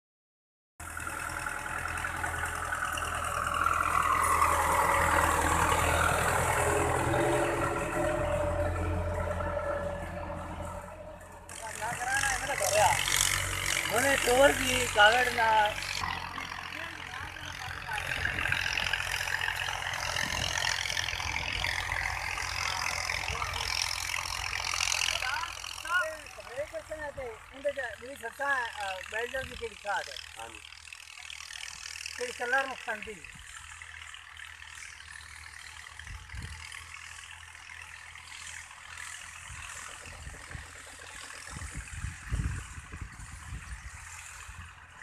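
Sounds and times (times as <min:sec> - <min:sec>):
tractor diesel engine running: 0:00.8 - 0:45.0.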